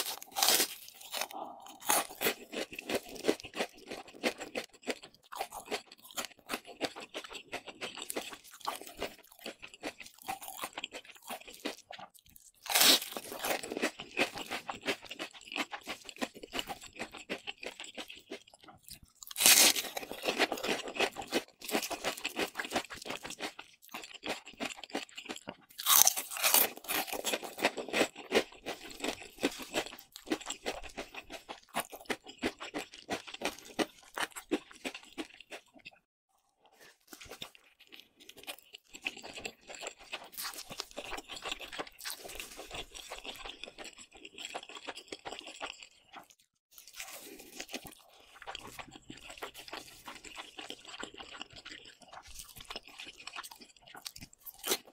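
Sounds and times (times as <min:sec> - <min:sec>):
crunching and chewing fried food: 0:00.0 - 0:54.9.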